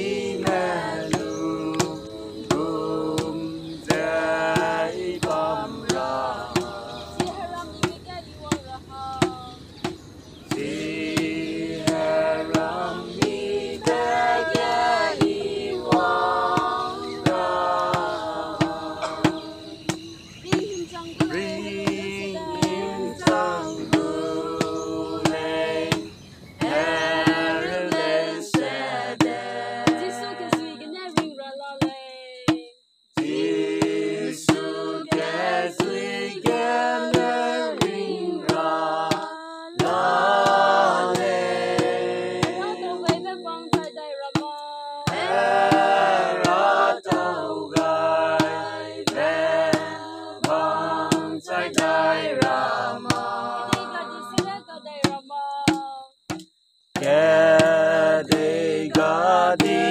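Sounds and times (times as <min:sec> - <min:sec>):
group singing a cappella: 0:00.0 - 0:59.9
sharp taps keeping beat: 0:00.0 - 0:59.9.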